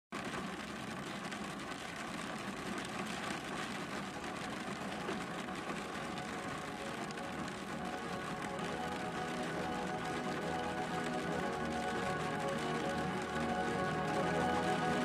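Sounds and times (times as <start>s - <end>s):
rain on car: 0.1s - 15.0s.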